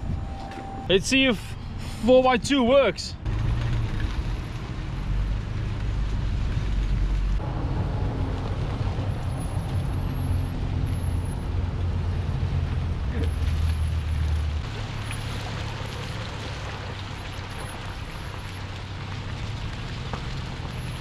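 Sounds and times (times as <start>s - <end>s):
low engine rumble: 0.0s - 21.0s
tyre and ground noise: 0.0s - 21.0s.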